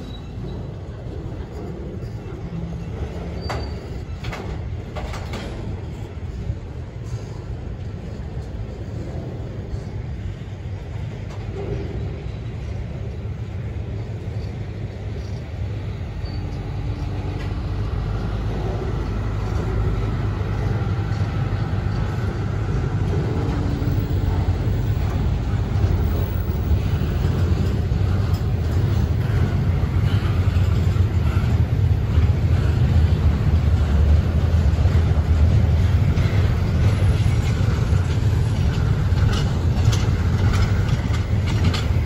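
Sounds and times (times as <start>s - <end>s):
freight train low rumble: 0.0s - 42.0s.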